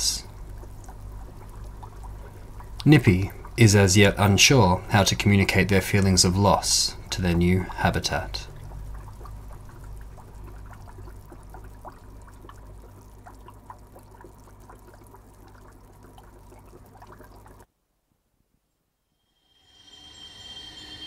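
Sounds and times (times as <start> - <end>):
steady low hum: 0.0 - 17.6
aquarium water bubbling: 0.0 - 17.7.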